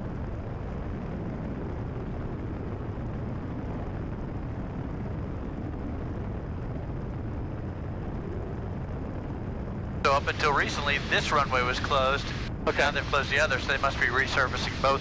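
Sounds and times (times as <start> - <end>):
aircraft engine and propeller rumble: 0.0 - 15.0.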